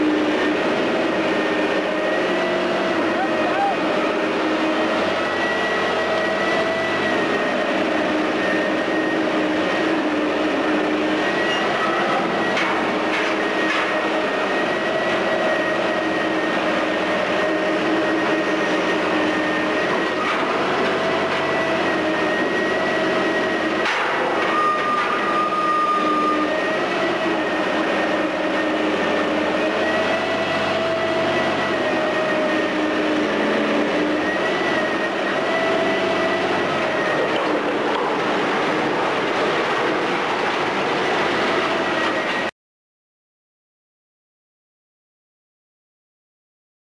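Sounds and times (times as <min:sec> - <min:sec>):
crane engine and winch whine: 0:00.0 - 0:42.5.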